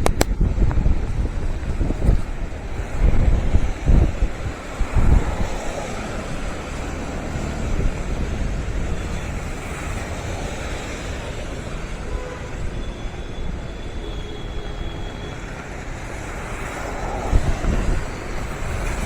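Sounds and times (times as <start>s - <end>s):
road traffic noise: 0.0s - 19.0s
wind rumbling on microphone: 0.0s - 19.0s.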